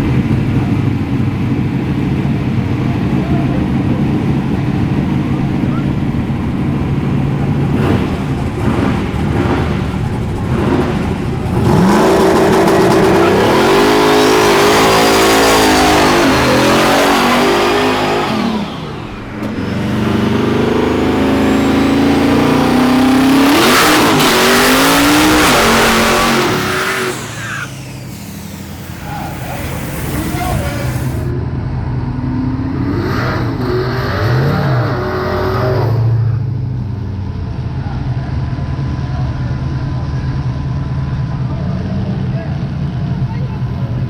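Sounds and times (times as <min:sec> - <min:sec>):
race car engines at full throttle: 0:00.0 - 0:44.0.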